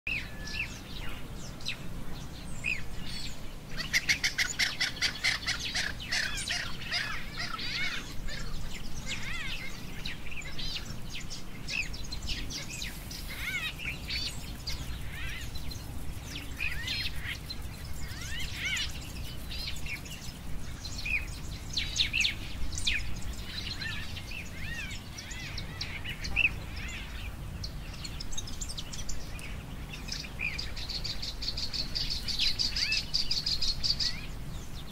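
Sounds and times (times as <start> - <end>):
birds chirping and calling: 0.1 - 34.9
low background rumble: 0.7 - 34.9.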